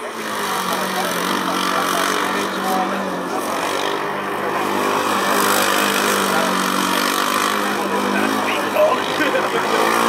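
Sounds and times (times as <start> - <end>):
race car engine running: 0.0 - 10.0.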